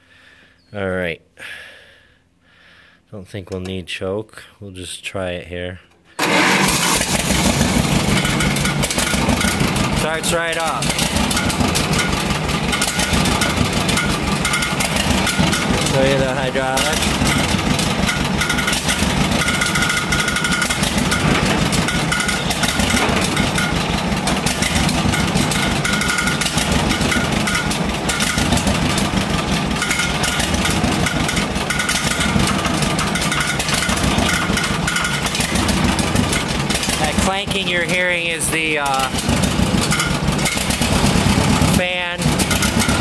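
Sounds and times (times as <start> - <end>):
cooling fan clanking: 6.2 - 43.0
dozer engine running: 6.2 - 43.0.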